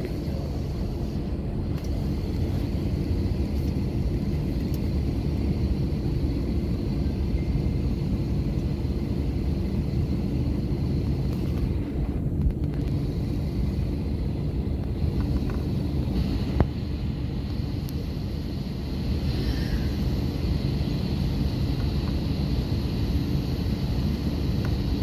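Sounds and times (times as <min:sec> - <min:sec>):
airplane cabin engine rumble: 0:00.0 - 0:25.0
faint high whine: 0:00.0 - 0:25.0.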